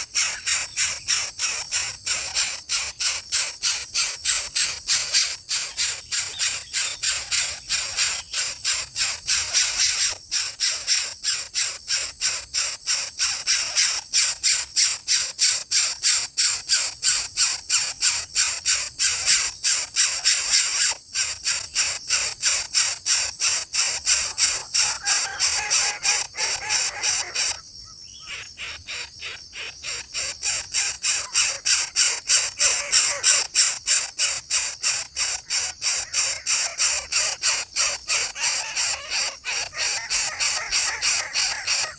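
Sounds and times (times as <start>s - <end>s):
raspy high-pitched bird calls: 0.0s - 41.9s.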